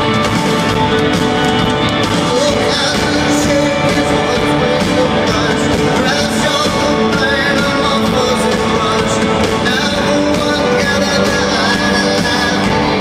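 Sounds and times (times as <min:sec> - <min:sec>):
live rock band playing: 0:00.0 - 0:13.0
person singing: 0:02.0 - 0:13.0.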